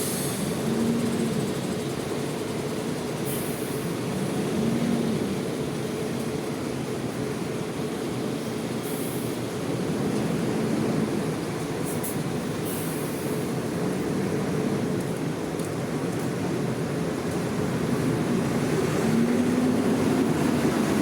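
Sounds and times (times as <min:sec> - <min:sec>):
diesel bus engines droning: 0:00.0 - 0:21.0.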